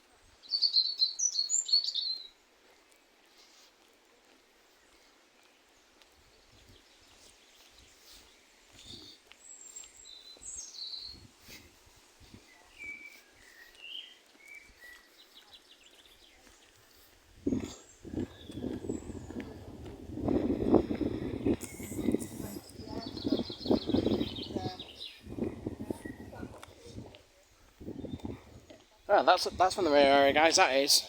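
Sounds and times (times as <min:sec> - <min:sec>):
birds chirping: 0:04.8 - 0:31.0.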